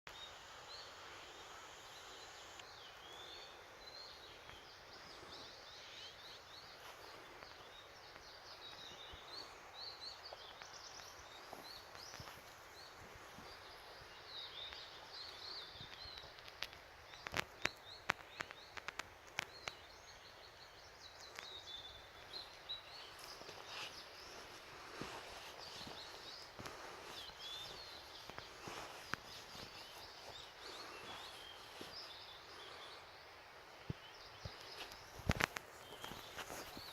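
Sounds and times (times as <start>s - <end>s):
faint hiss: 0.1s - 36.9s
birds singing and chirping: 0.2s - 36.9s.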